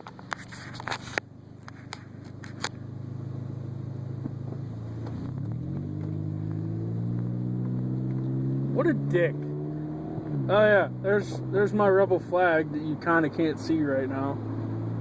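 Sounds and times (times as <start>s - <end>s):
car engine revving: 1.8s - 15.0s.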